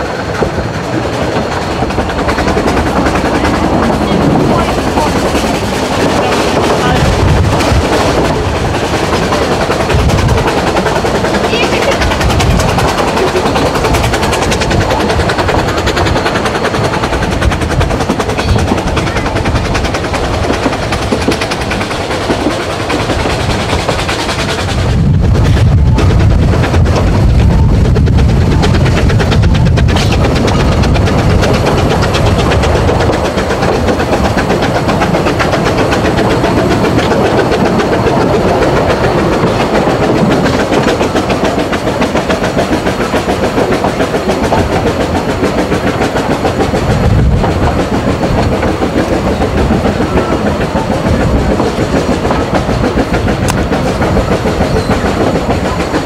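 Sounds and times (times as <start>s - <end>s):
deep heavy rumble: 0.0s - 43.8s, 44.4s - 56.0s
train wheels rattling on track: 0.0s - 56.0s.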